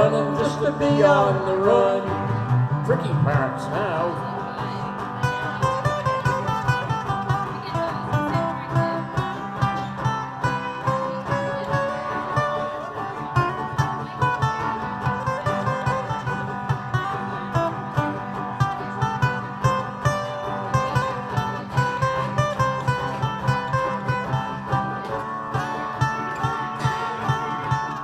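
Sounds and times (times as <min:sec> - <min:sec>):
strummed acoustic guitars: 0:00.0 - 0:28.0.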